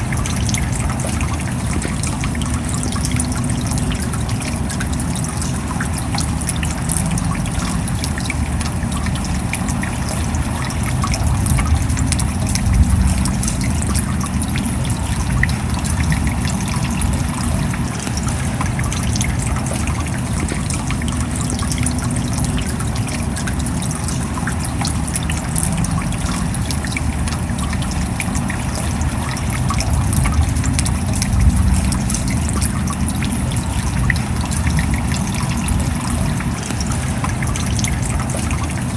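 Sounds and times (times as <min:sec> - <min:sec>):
drops ticking: 0:00.0 - 0:38.9
steady rain: 0:00.0 - 0:38.9
trickle of running water: 0:00.0 - 0:38.9.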